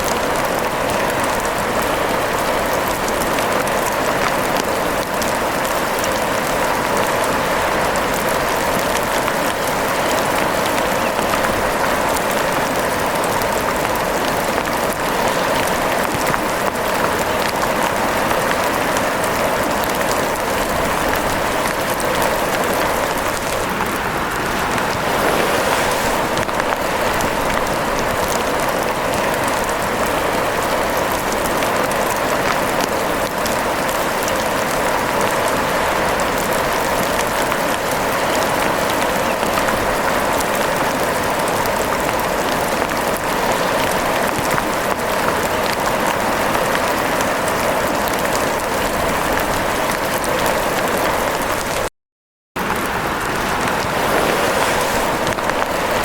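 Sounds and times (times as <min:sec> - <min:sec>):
steady rain falling: 0:00.0 - 0:51.9, 0:52.6 - 0:56.0.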